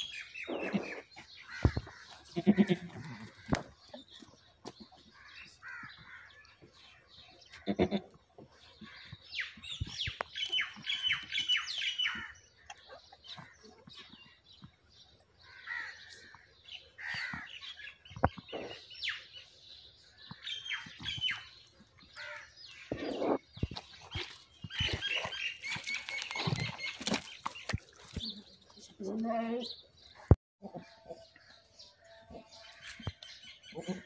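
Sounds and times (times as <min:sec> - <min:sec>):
small birds chirping and trilling: 0:00.0 - 0:34.0.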